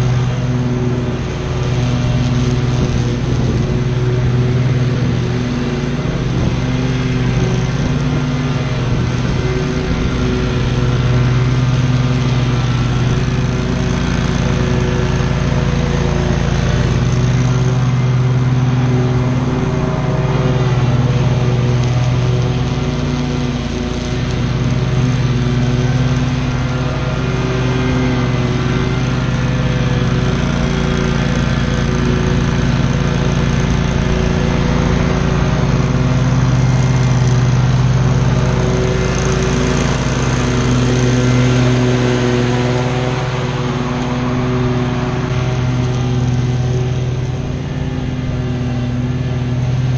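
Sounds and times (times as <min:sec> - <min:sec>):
lawn mower engine running: 0:00.0 - 0:49.9.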